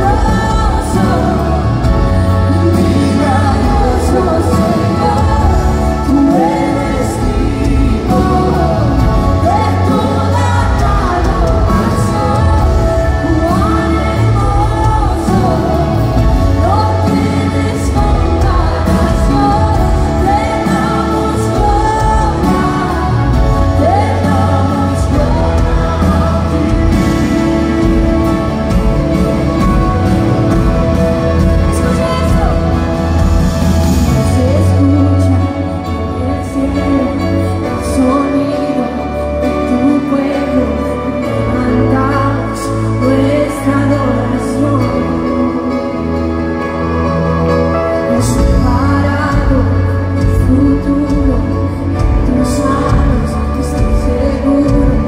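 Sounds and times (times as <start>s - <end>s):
woman singing: 0.0s - 55.0s
worship band playing: 0.0s - 55.0s.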